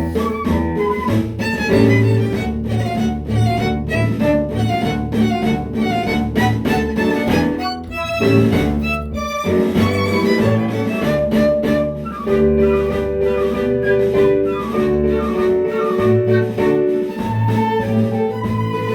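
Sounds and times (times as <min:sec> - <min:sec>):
instrumental ensemble music: 0:00.0 - 0:18.9.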